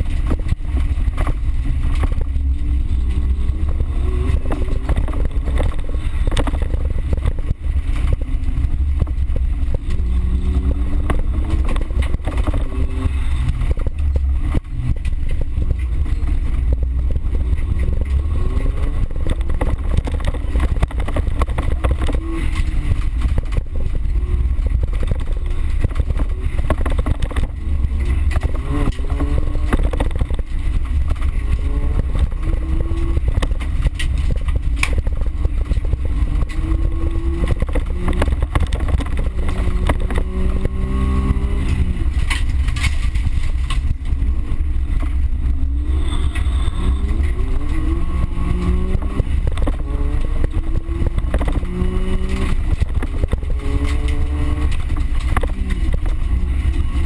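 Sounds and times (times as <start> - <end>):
car engine revving: 0.0 - 57.0
heavy low rumble: 0.0 - 57.0
knocks and rattles: 0.0 - 57.0.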